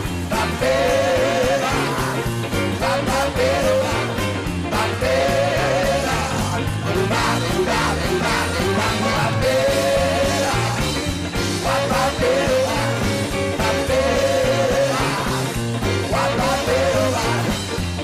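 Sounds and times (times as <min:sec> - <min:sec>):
bending lead guitar line: 0:00.0 - 0:18.0
blues-rock band playing: 0:00.0 - 0:18.0.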